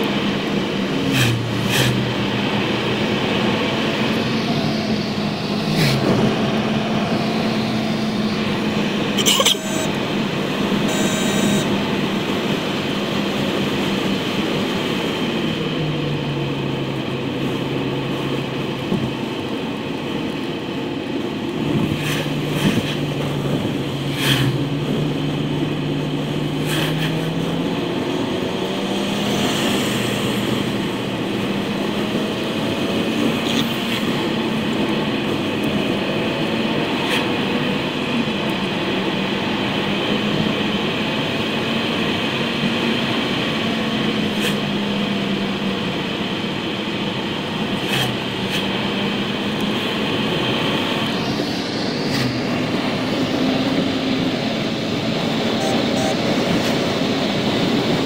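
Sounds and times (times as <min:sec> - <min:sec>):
car engine hum: 0:00.0 - 0:58.0.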